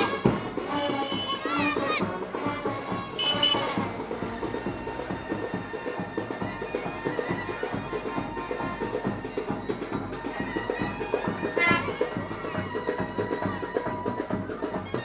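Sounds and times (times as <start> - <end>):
drums beating fast rhythm: 0.0 - 15.0
reedy wind instrument: 0.0 - 15.0.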